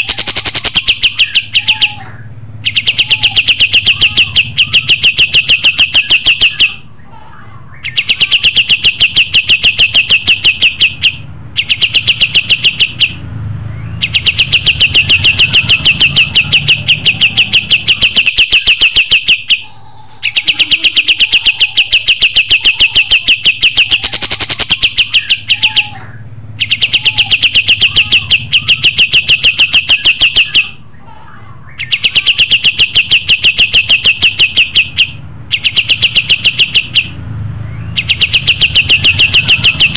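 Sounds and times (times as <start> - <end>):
bird singing rapid trills: 0.0 - 7.1, 7.7 - 31.0, 31.7 - 39.9.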